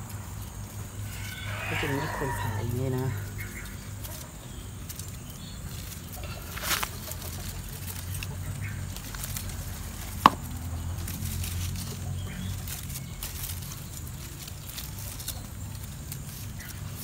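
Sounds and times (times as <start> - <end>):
branches rustling: 0.0 - 17.0
branch snapping: 3.2 - 17.0.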